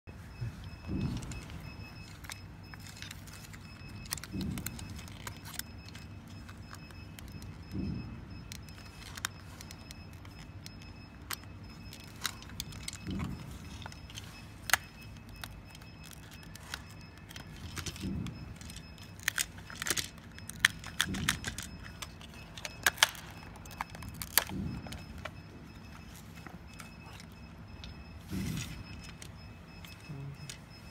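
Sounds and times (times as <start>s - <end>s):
plastic parts clicking and tapping: 0.6s - 28.0s.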